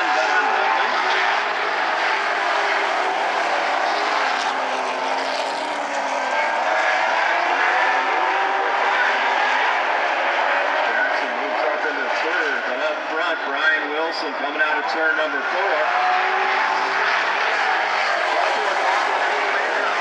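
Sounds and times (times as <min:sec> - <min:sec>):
race car engines at speed: 0:00.0 - 0:20.0.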